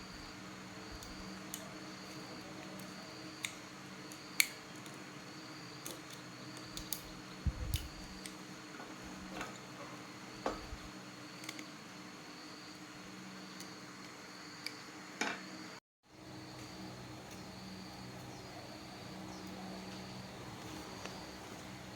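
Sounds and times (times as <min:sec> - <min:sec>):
steady low hum: 0:00.0 - 0:04.3, 0:05.4 - 0:13.6, 0:14.4 - 0:21.9.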